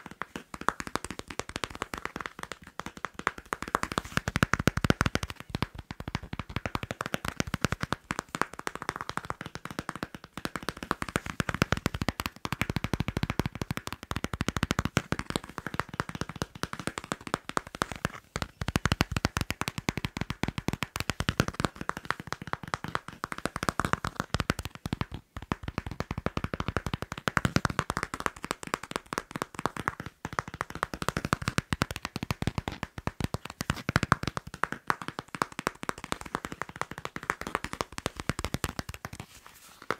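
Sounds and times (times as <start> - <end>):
tapping and scratching on passport: 0.0 - 39.9.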